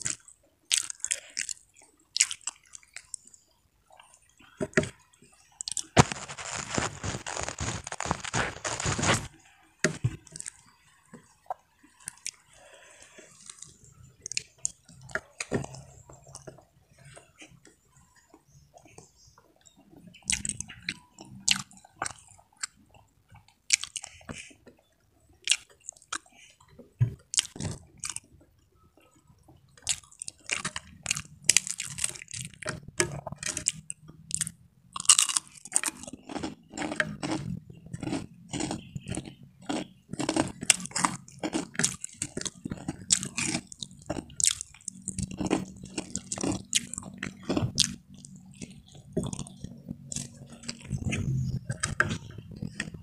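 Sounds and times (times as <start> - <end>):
chewing and crunching: 0.0 - 53.0.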